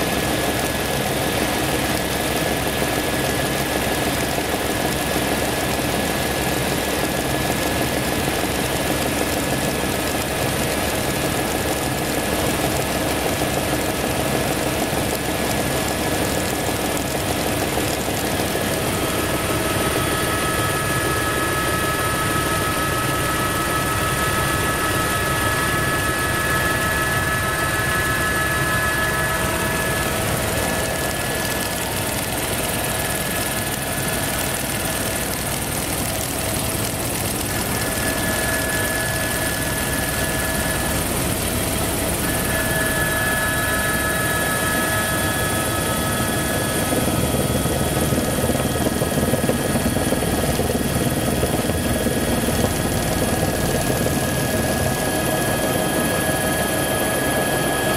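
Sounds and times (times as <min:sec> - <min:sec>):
helicopter engine and rotor noise: 0:00.0 - 0:57.9.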